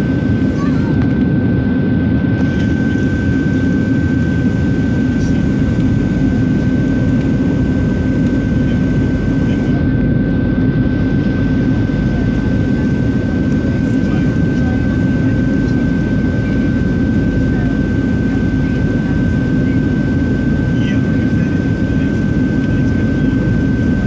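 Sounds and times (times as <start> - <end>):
jet engines droning: 0.0 - 24.0.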